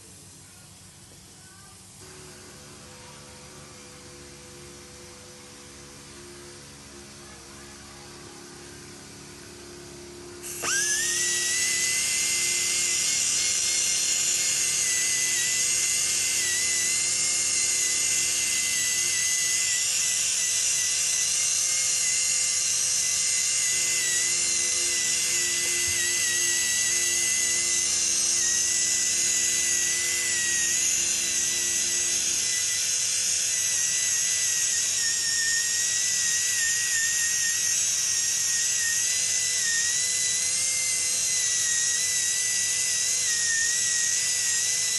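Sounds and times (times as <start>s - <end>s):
high-pitched polishing tool whine: 1.2s - 44.9s.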